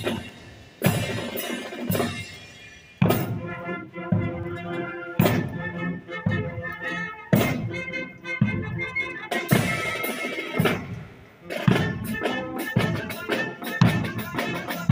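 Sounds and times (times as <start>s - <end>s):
heavy drum beat: 0.0s - 14.9s
marching band playing: 0.0s - 14.9s.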